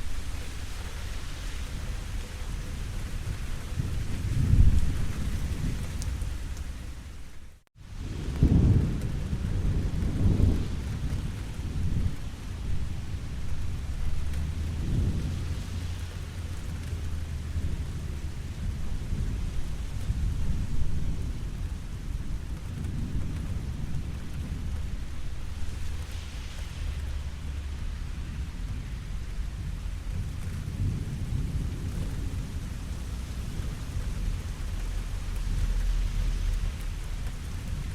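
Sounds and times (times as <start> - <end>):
low rolling thunder: 0.0 - 7.2, 7.8 - 37.9
heavy rain: 0.0 - 37.9.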